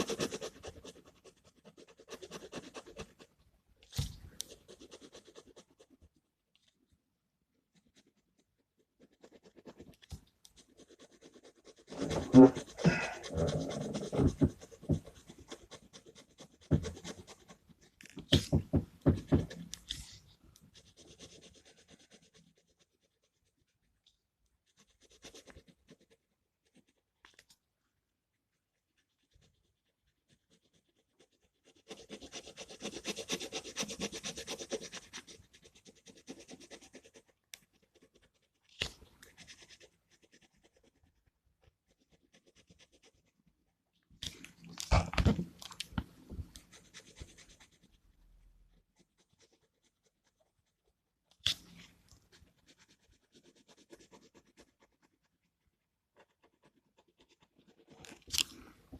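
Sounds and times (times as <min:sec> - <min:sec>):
scratching and rustling of pens and paper: 0:00.0 - 0:58.9.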